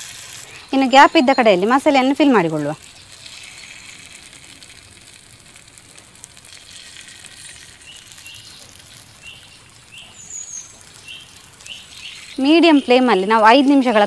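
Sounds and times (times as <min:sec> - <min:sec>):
food sizzling in oil: 0:00.0 - 0:14.0
bird chirping: 0:00.5 - 0:04.6, 0:06.8 - 0:14.0.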